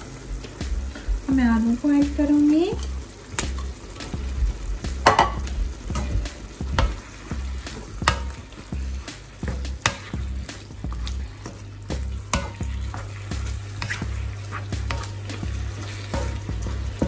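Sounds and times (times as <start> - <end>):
meat sizzling: 0.0 - 17.0
spatula scraping a wok: 2.8 - 17.0.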